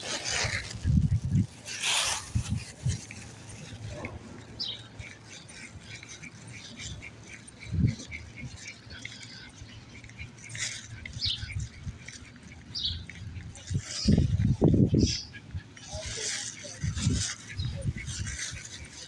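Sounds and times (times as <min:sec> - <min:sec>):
small birds chirping: 0:00.3 - 0:19.0.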